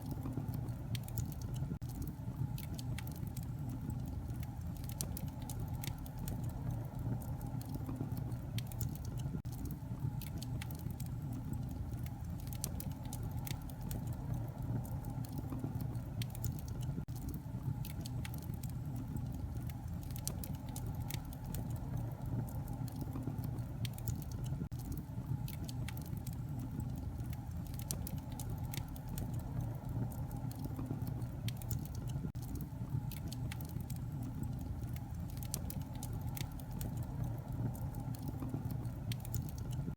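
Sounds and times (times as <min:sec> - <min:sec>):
fire burning rumble: 0:00.0 - 0:39.9
fire pops and crackles: 0:00.0 - 0:39.9.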